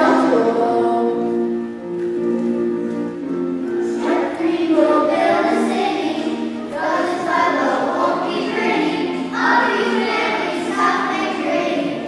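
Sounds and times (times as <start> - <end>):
children singing together: 0.0 - 1.8, 3.7 - 12.0.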